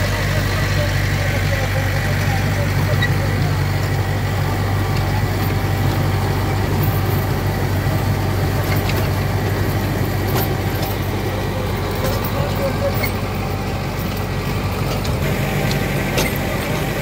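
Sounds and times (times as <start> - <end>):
rotavator churning soil: 0.0 - 17.0
tractor diesel engine running: 0.0 - 17.0.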